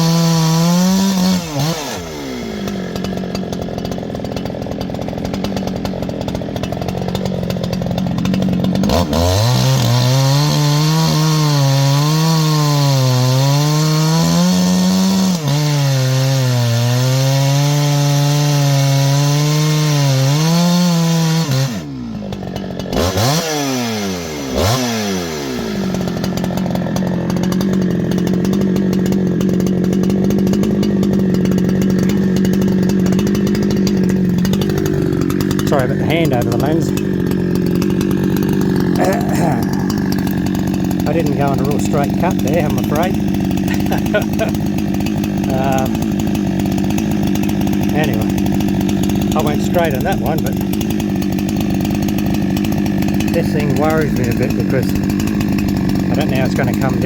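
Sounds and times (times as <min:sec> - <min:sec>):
chainsaw cutting into log: 0:00.0 - 0:57.0
chainsaw engine revving: 0:00.0 - 0:57.0.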